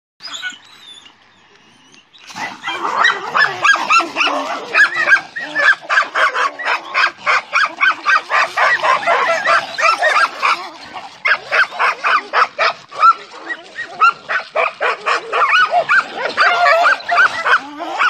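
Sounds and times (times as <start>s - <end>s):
dogs barking: 2.3s - 18.0s.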